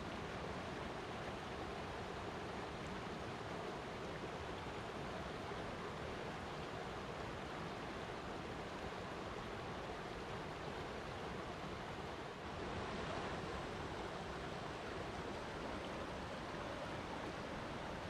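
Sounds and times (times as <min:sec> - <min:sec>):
flowing water: 0:00.0 - 0:18.0.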